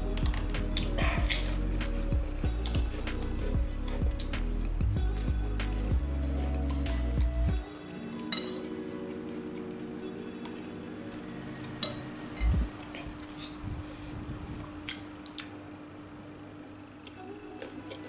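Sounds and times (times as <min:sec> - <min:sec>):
person chewing food: 0:00.0 - 0:11.8, 0:12.5 - 0:15.6, 0:17.0 - 0:18.0.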